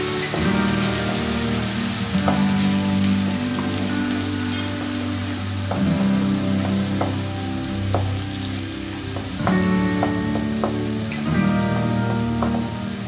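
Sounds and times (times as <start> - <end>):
food sizzling in oil: 0.0 - 13.0
soft background music: 0.0 - 13.0.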